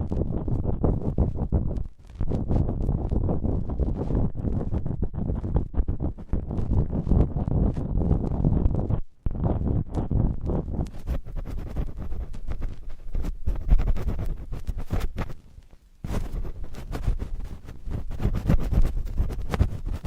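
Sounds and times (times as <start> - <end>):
cotton swab scratching microphone: 0.0 - 20.0.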